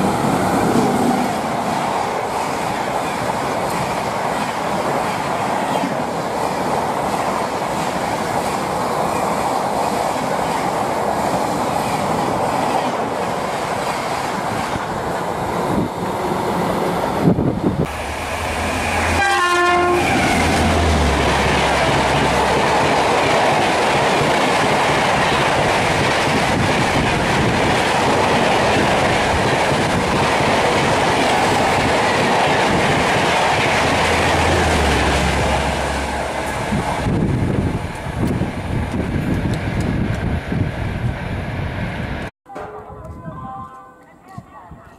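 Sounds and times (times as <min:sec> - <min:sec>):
train coaches rushing past: 0:00.0 - 0:44.8.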